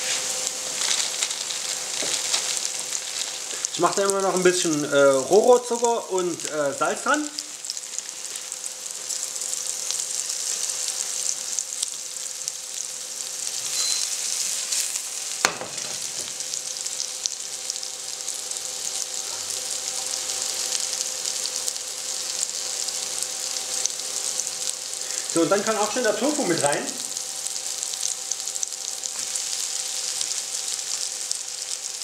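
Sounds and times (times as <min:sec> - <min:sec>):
mushrooms sizzling in a pan: 0:00.0 - 0:32.0.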